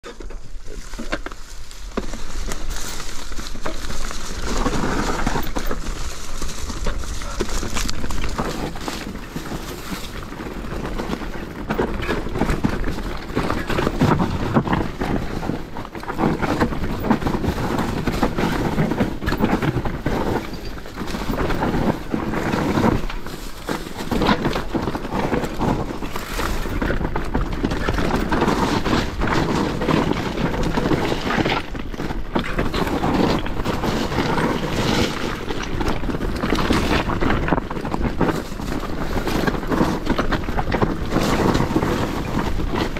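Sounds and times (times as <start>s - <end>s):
bike knocking and rattling: 0.0s - 42.9s
bike tyre noise: 0.0s - 42.9s
wind on microphone: 1.8s - 42.9s.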